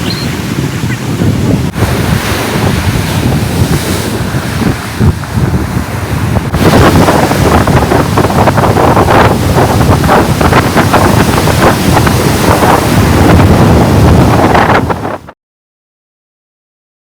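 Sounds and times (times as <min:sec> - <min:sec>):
ocean waves on a beach: 0:00.0 - 0:15.3
wind buffeting microphone: 0:00.0 - 0:15.4.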